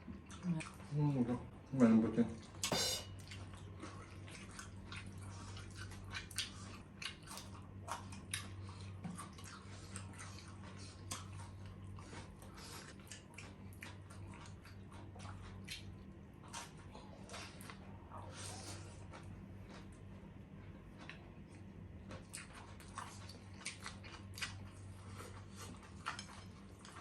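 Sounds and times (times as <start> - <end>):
people chewing food: 0.0 - 27.0
steady low hum: 0.0 - 27.0.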